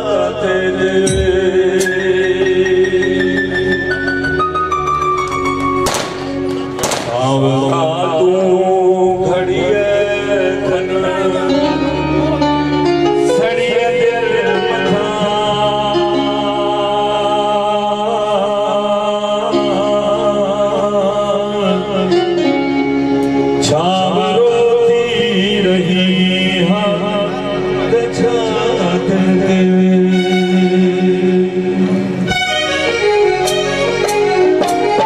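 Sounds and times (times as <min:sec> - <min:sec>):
man singing through a microphone: 0:00.0 - 0:04.3, 0:06.8 - 0:32.3
electronic keyboard sustained notes: 0:00.0 - 0:35.0.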